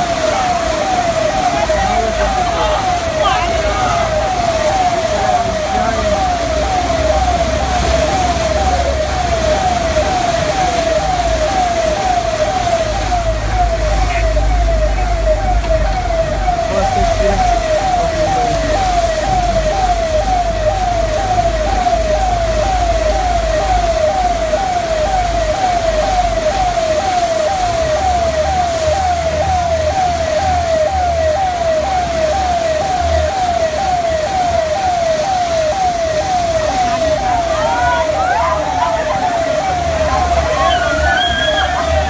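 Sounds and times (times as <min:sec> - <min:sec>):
siren wailing: 0:00.0 - 0:42.0.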